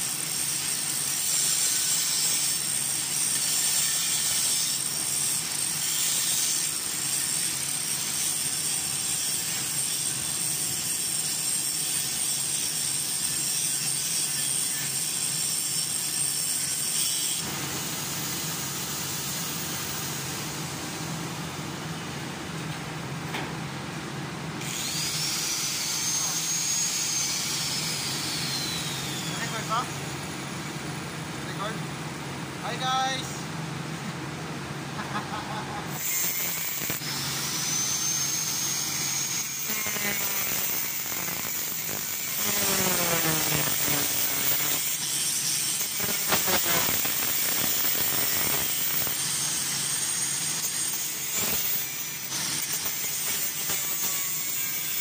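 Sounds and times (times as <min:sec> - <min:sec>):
welding arc hissing: 0:00.0 - 0:21.2, 0:24.6 - 0:29.9, 0:35.4 - 0:55.0
steady shop hum: 0:00.0 - 0:55.0.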